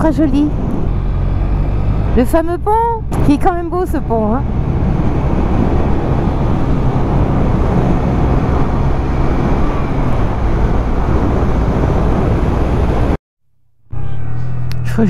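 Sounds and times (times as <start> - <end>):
wind rushing on microphone: 0.0 - 13.2
motorcycle engine drone: 0.0 - 15.0.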